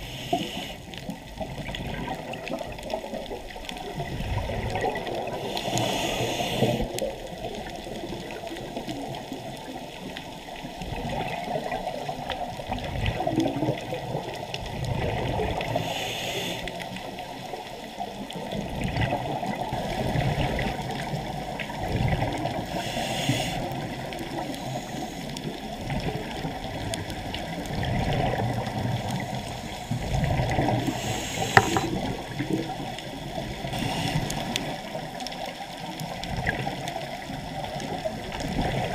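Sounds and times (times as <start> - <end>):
gurgling exhaled bubbles: 0.0 - 38.9
muffled churning of water: 0.0 - 38.9.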